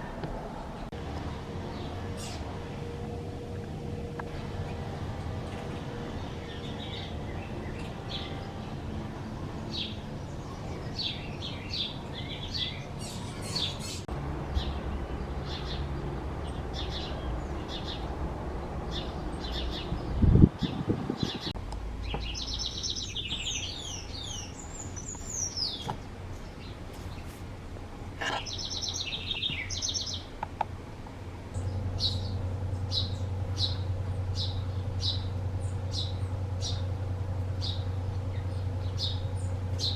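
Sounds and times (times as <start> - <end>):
small birds chirping: 0.0 - 3.2, 3.8 - 39.9
birds twittering: 0.0 - 27.5, 28.1 - 39.9.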